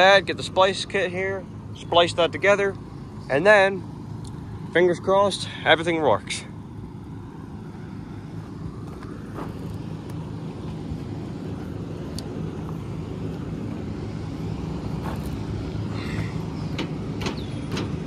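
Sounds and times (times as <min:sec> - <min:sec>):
combine harvester engine running: 0:00.0 - 0:18.0.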